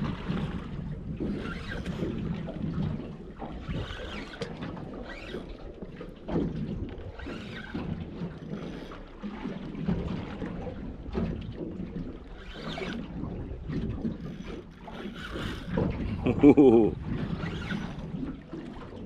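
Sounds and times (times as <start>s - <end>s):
water sloshing against boat hull: 0.0s - 19.0s.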